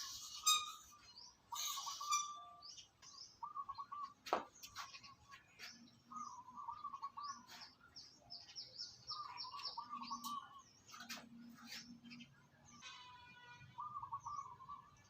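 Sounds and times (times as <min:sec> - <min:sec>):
birds singing: 0:00.0 - 0:15.0.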